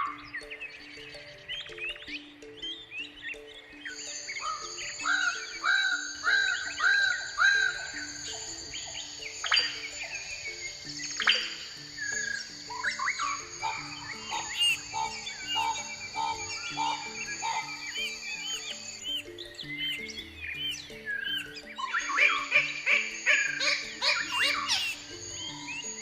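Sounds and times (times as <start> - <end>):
background music low notes: 0.0 - 26.0
birds singing and calling: 0.0 - 26.0
high insect drone: 0.0 - 26.0.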